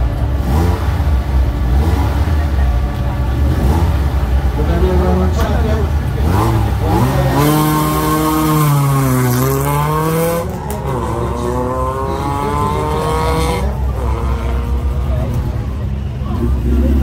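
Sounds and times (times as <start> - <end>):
car engine accelerating: 0.0 - 17.0
race car engine revving: 0.0 - 17.0.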